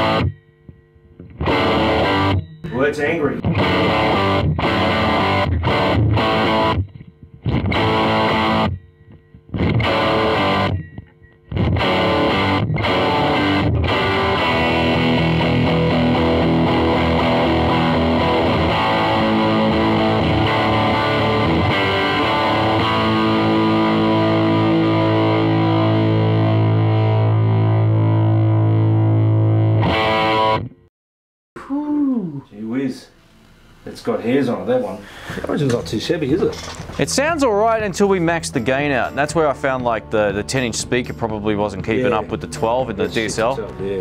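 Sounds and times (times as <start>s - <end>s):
distorted electric guitar chords: 0.0s - 30.9s, 35.0s - 44.0s.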